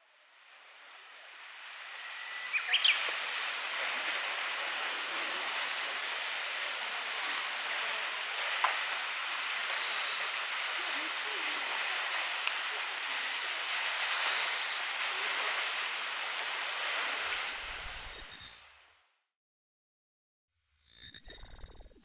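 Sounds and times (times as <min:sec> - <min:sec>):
steady rushing hiss: 0:00.1 - 0:18.5.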